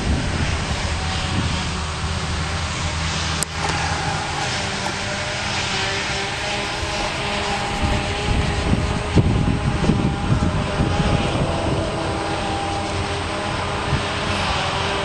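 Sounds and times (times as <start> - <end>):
diesel machinery running: 0.0 - 15.0
steady mechanical whine: 0.0 - 15.0.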